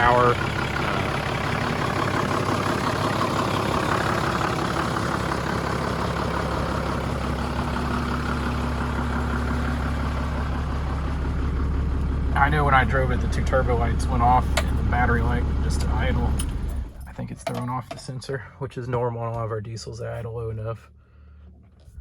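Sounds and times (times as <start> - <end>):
diesel engine idling: 0.0 - 17.8.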